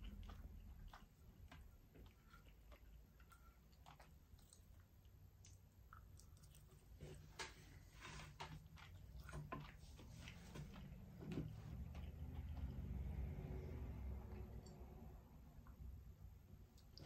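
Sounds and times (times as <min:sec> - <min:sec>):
person chewing food: 0:00.0 - 0:14.8.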